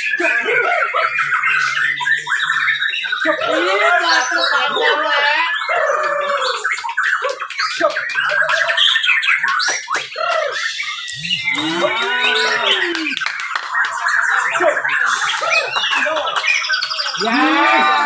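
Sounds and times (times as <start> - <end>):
birds singing whistled phrases: 0.0 - 17.5.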